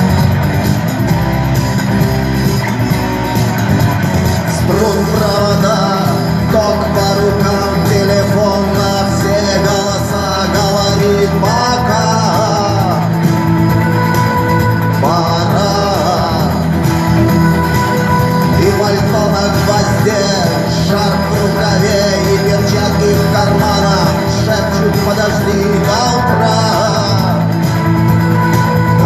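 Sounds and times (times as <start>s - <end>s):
guitar playing: 0.0s - 29.0s
rock music with male vocal: 0.0s - 29.0s.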